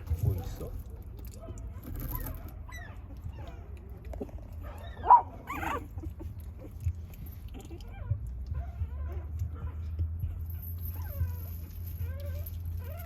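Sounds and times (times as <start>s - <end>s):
puppy whimpering and yelping: 1.7s - 13.0s.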